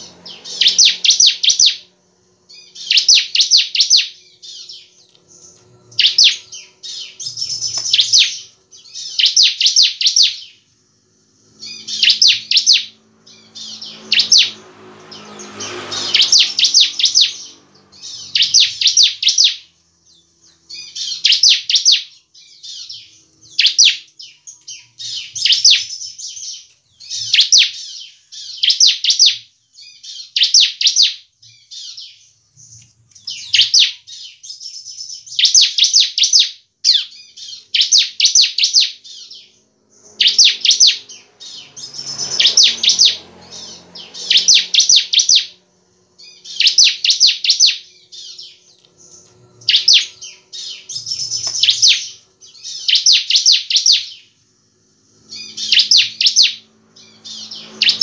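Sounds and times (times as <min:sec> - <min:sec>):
bird singing high sharp notes: 0:00.0 - 0:58.0.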